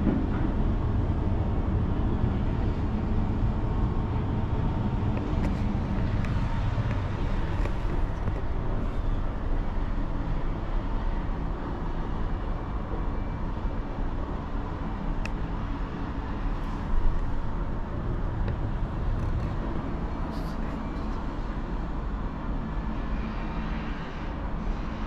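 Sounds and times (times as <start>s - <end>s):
cable car low rumble: 0.0s - 25.0s.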